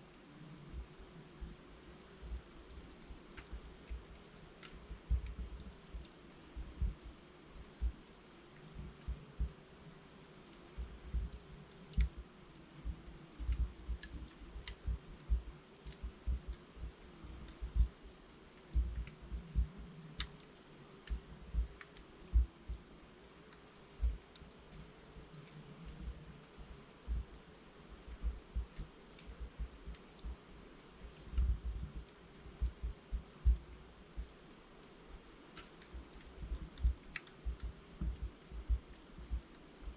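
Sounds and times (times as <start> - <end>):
logs crackling in a fireplace: 0.0 - 39.9.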